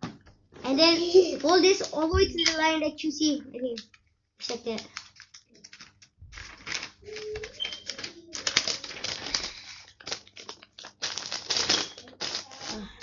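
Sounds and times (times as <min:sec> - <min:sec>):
paper rustling and crinkling: 0:00.6 - 0:02.4, 0:04.4 - 0:13.0.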